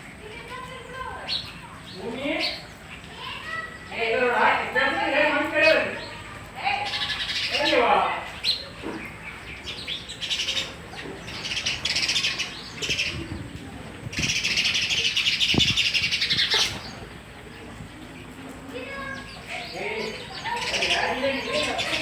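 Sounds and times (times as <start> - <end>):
sparrows chirping and chattering: 0.0 - 22.0.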